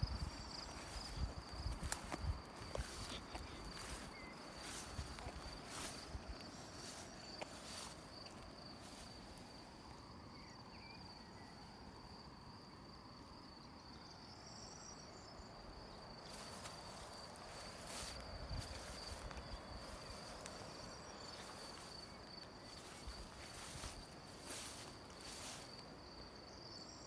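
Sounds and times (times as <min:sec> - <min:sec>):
cricket trilling: 0:00.0 - 0:27.0.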